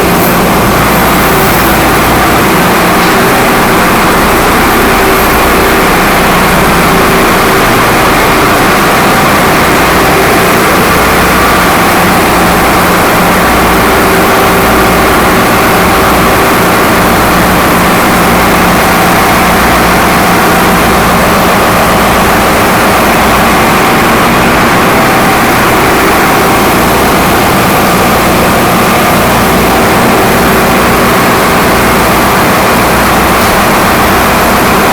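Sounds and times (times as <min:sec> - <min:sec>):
diesel engine room machinery: 0:00.0 - 0:34.9.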